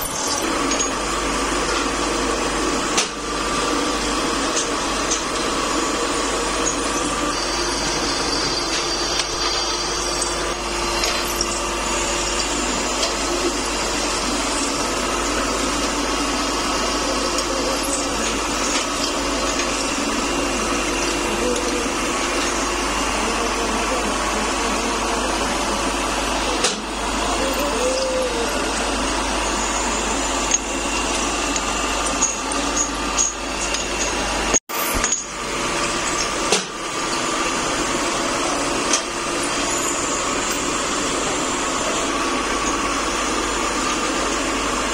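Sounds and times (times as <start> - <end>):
drill bit cutting metal: 0.0 - 44.9
drill press whirring: 0.0 - 44.9.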